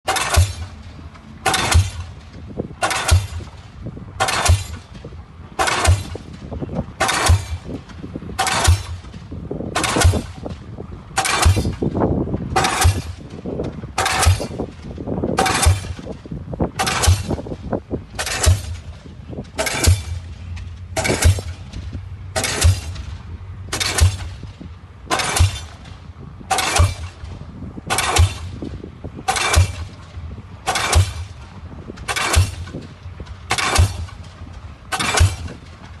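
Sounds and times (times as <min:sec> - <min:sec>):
diesel pile hammer blows: 0:00.0 - 0:36.0.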